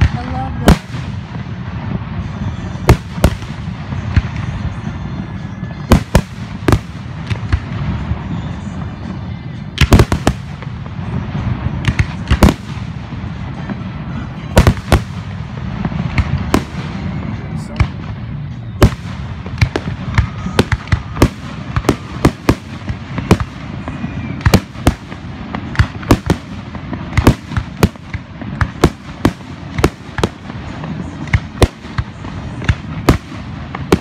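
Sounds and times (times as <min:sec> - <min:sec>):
fireworks bangs: 0:00.0 - 0:34.0
fireworks whistles: 0:00.2 - 0:34.0.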